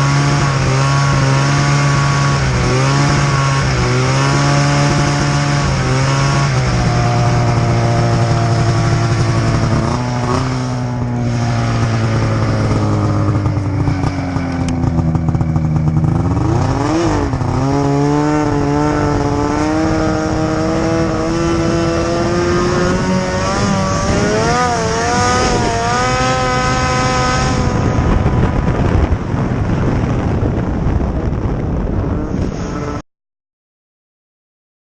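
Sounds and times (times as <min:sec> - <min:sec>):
snowmobile engine running: 0:00.0 - 0:33.0.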